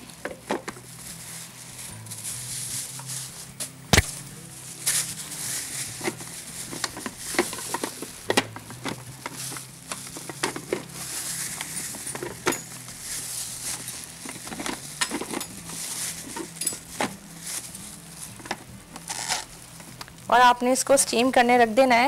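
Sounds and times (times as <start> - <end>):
soft rustling hiss: 0.0 - 21.5
low steady hum: 0.0 - 22.0.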